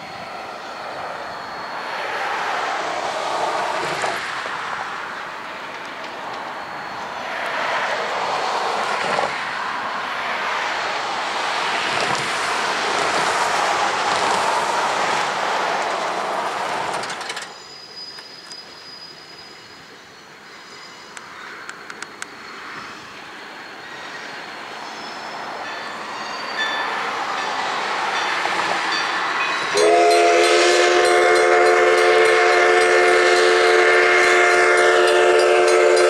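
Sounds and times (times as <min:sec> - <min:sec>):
road traffic passing: 0:00.0 - 0:17.5, 0:19.8 - 0:36.0.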